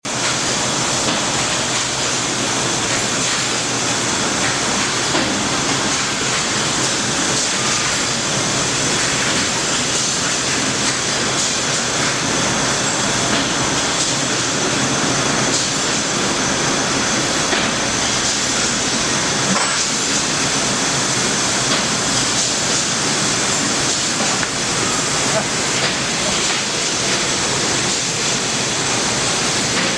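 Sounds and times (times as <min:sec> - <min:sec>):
lathe running with rushing hiss: 0:00.1 - 0:29.9.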